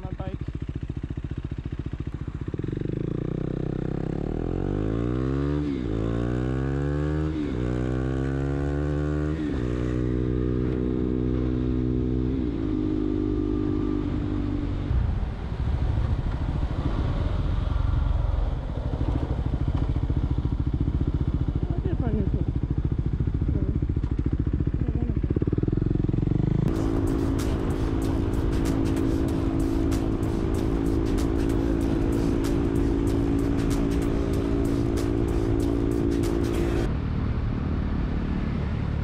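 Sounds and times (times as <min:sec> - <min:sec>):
motorcycle engine revving: 0:00.0 - 0:39.0
wind and road noise: 0:00.0 - 0:39.0.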